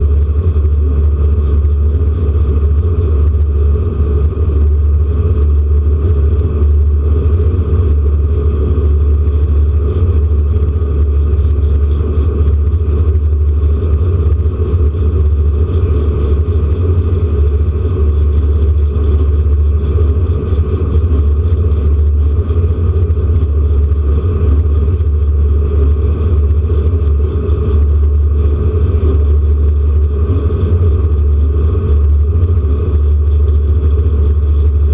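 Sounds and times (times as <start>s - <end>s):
race car engine running: 0.0s - 34.9s.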